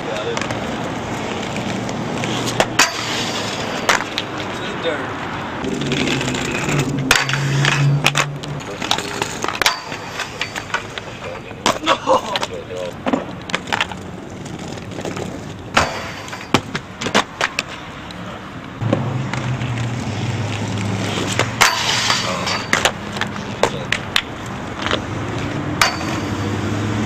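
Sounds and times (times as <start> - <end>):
skate wheels rolling on pavement: 0.0 - 27.0
skates clacking on metal rail: 0.1 - 4.6, 5.6 - 18.2, 20.8 - 26.7.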